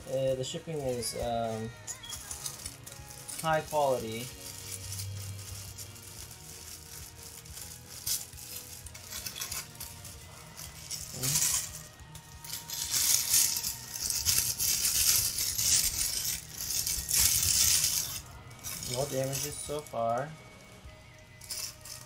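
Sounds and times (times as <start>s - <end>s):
plastic wrapping rustling: 0.0s - 22.0s.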